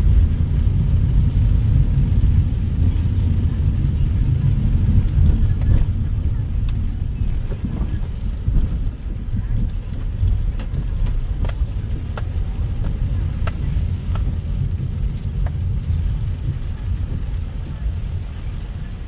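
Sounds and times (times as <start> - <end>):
car rumbling: 0.0 - 19.0
raindrops ticking on windshield: 0.0 - 19.0.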